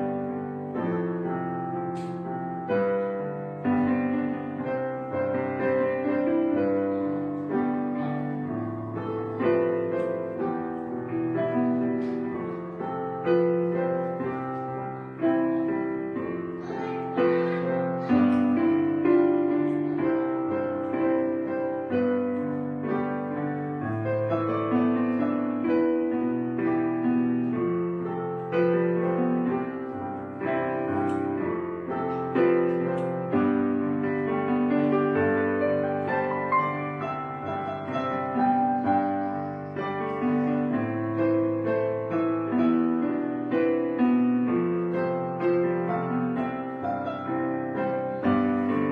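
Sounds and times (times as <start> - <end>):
solo piano music: 0.0 - 48.9.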